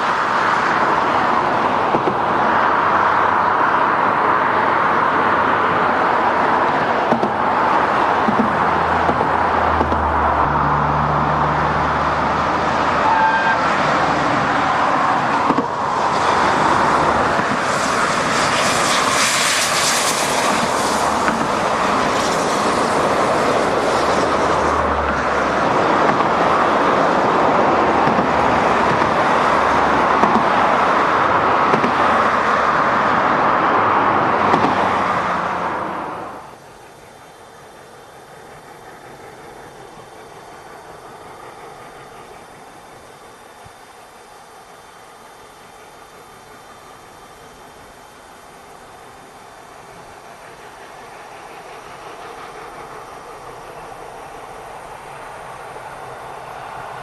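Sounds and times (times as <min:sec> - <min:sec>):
train passing at speed: 0:00.0 - 0:57.0
wheel and rail noise: 0:00.0 - 0:57.0.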